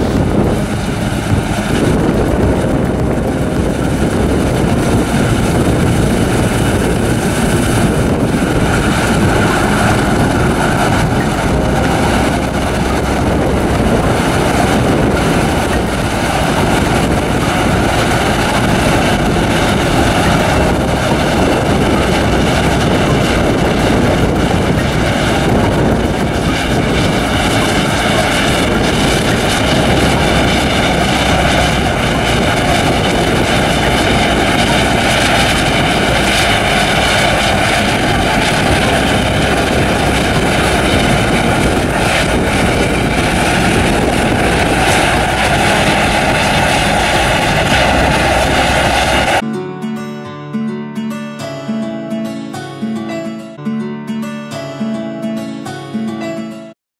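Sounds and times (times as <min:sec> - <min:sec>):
combine harvester machine drone: 0:00.0 - 0:49.4.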